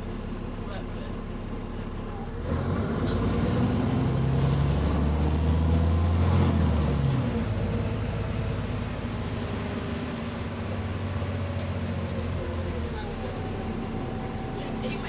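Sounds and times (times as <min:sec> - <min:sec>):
bus engine pulling hard: 0:00.0 - 0:15.0.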